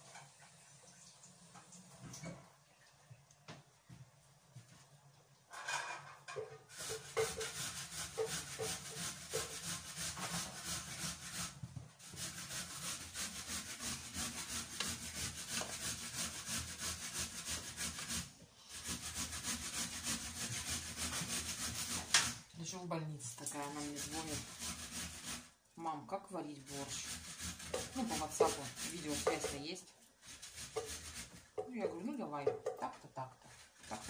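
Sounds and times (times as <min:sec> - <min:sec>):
rhythmic scraping on hard surface: 0:05.7 - 0:25.9, 0:26.5 - 0:34.0.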